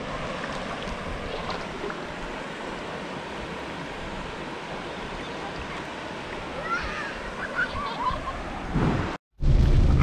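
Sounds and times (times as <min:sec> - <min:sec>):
river running over stones: 0:00.0 - 0:09.1.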